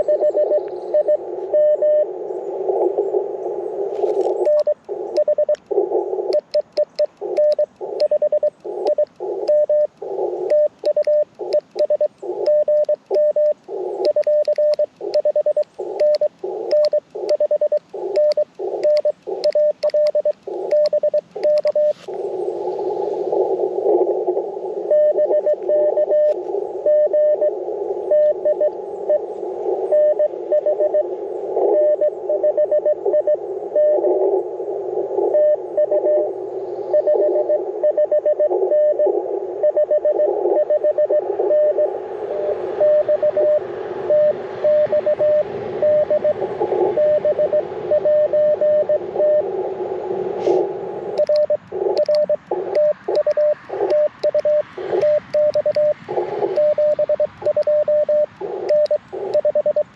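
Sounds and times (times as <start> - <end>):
morse code sidetone beeps: 0.0 - 2.1, 4.0 - 22.1, 24.9 - 29.2, 29.9 - 34.2, 35.3 - 36.3, 36.9 - 49.6, 51.1 - 59.9
radio receiver hiss: 0.0 - 59.9
morse code beeping through hiss: 3.8 - 29.2, 35.3 - 59.9.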